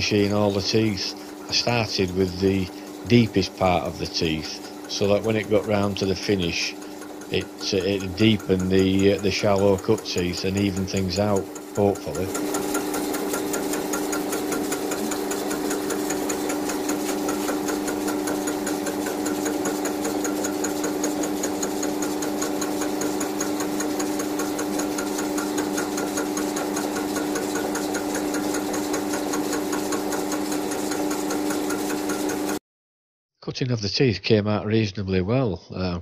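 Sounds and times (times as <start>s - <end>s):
milling machine cutting metal: 0.0s - 32.6s.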